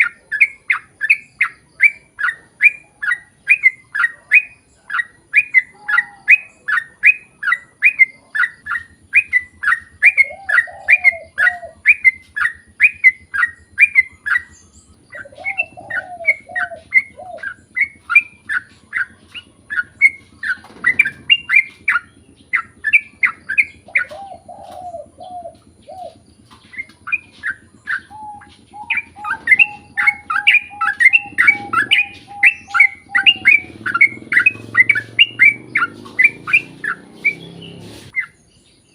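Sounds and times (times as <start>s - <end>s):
lower warbled bird phrase: 0.0s - 38.4s
bird chirping rapidly: 0.0s - 38.9s.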